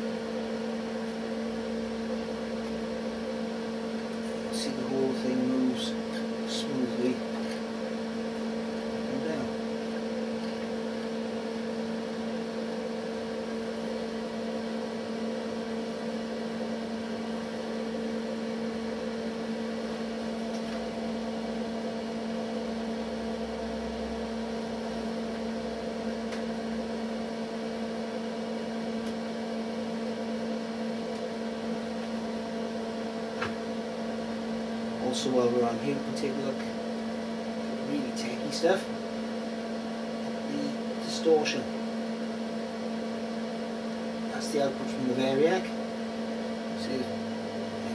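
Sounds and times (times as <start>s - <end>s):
electrical mains hum: 0.0s - 47.9s.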